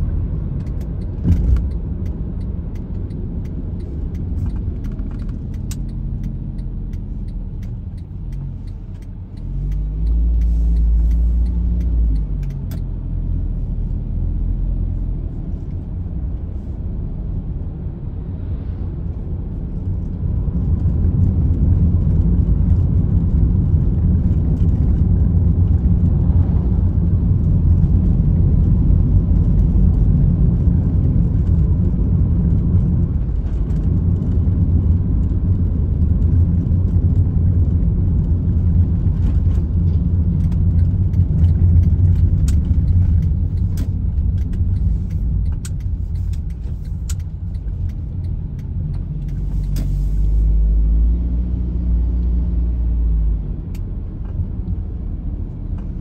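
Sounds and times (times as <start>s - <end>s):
low engine tone rising: 0.0s - 56.0s
road and engine rumble: 0.0s - 56.0s.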